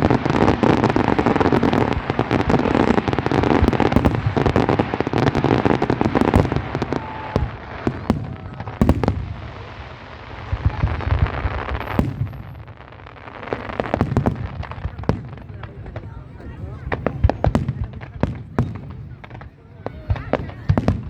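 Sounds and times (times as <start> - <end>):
fireworks bangs and crackle: 0.0 - 21.0.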